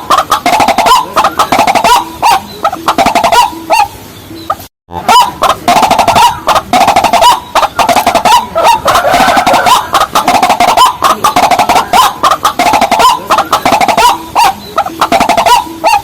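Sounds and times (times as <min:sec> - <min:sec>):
bird clucking and chirping calls: 0:00.0 - 0:16.0.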